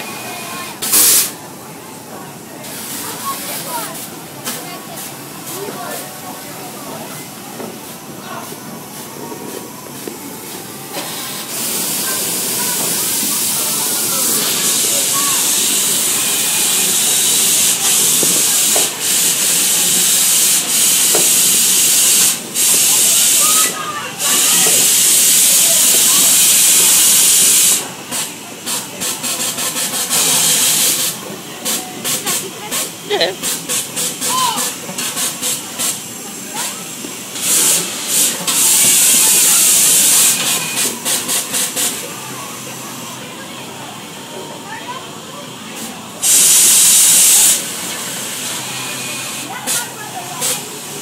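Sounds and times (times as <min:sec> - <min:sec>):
air blowers hissing: 0:00.0 - 0:01.6, 0:02.3 - 0:51.0.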